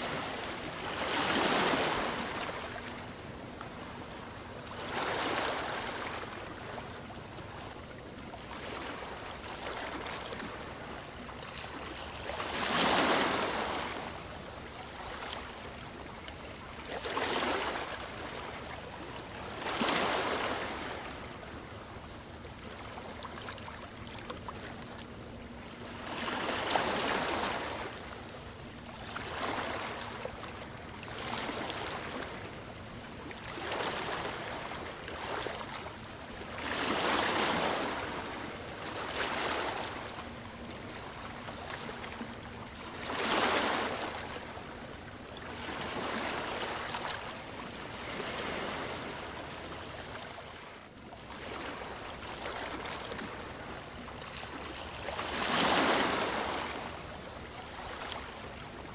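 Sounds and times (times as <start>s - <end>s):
small waves washing in: 0.0s - 7.8s, 8.4s - 58.9s.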